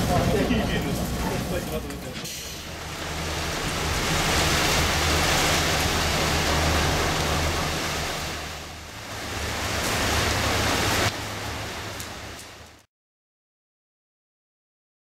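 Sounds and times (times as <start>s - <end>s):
diesel engines idling: 0.0s - 12.4s
loud even hiss: 0.0s - 12.8s.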